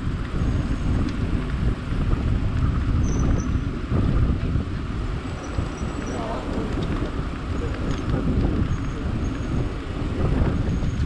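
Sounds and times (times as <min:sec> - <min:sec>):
moving vehicle: 0:00.0 - 0:11.0
wind buffeting the microphone: 0:00.0 - 0:11.0.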